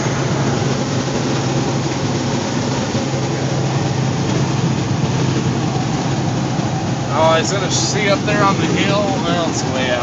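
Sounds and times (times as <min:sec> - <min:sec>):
road noise: 0:00.0 - 0:10.0
truck diesel engine hum: 0:00.0 - 0:10.0.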